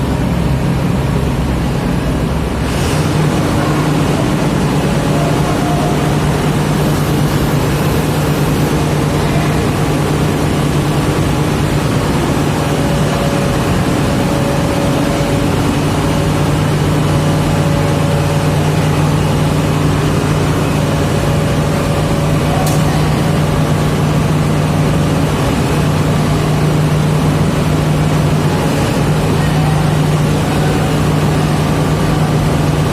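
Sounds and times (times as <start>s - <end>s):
large diesel engine running: 0.0s - 32.9s.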